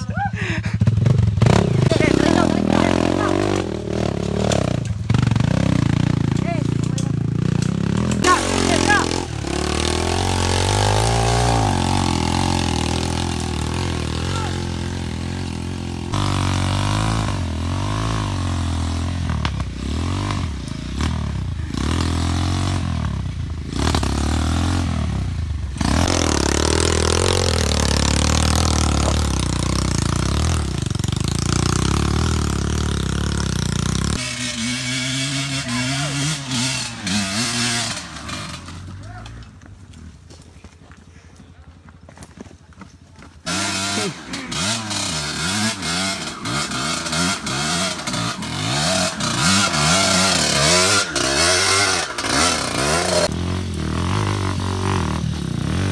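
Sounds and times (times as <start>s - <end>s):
dirt bike engine revving: 0.0s - 39.6s, 43.4s - 55.9s.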